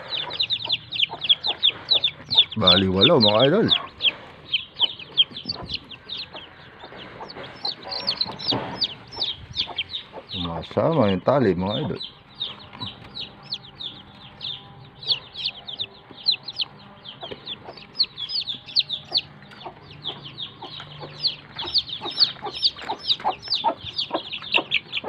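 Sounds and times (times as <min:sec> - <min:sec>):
chicks peeping: 0:00.0 - 0:25.0.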